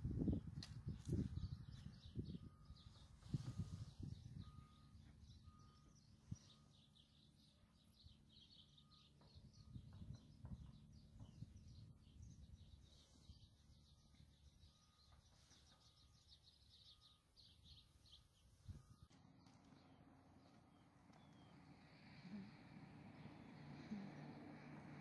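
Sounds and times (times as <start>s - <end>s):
small birds chirping: 0.2s - 25.0s.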